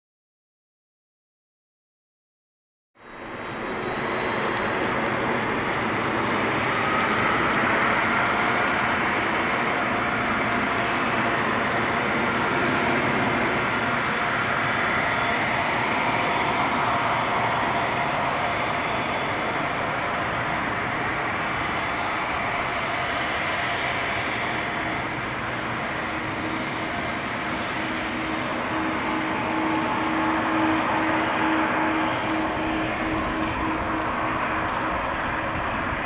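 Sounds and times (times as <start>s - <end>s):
jet engines rushing and whining: 3.0s - 36.0s.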